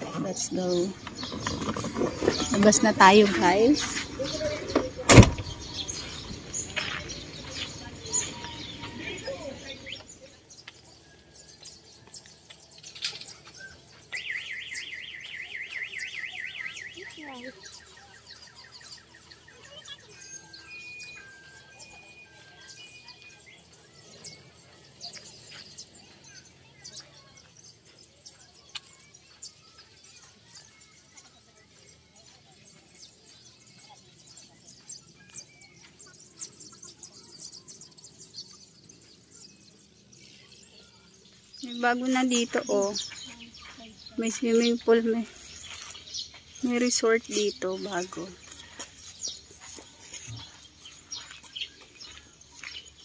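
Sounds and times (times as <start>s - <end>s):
birds chirping faintly: 0.0s - 53.0s.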